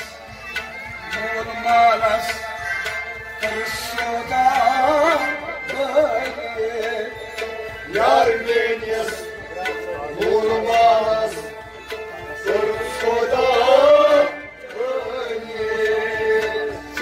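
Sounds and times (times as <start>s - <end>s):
harmonium holding notes: 0.0s - 17.0s
tabla: 0.0s - 17.0s.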